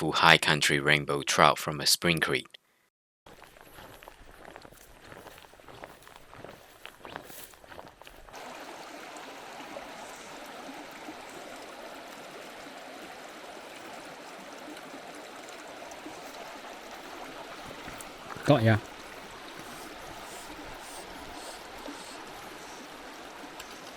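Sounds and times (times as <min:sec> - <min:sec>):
creek water flowing: 0:03.3 - 0:23.9.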